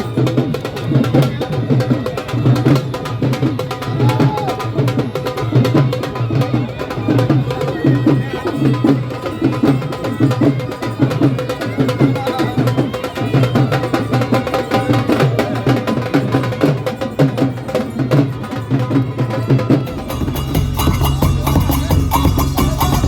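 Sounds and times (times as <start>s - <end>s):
music with fast percussion beat: 0.0s - 23.0s.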